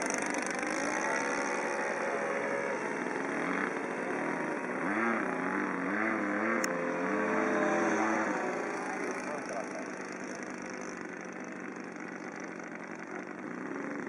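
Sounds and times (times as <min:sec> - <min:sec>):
model aircraft engine running: 0:00.0 - 0:14.0.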